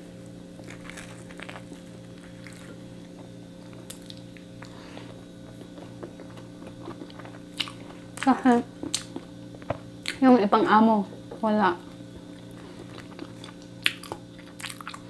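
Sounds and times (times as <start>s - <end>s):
person chewing crunchy food: 0.0s - 10.2s, 11.9s - 15.0s
steady low hum: 0.0s - 15.0s.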